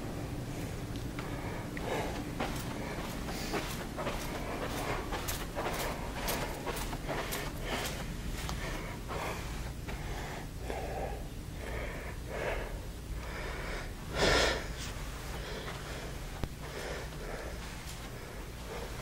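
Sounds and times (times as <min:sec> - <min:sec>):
low hum: 0:00.0 - 0:19.0
soft breathing: 0:00.3 - 0:19.0.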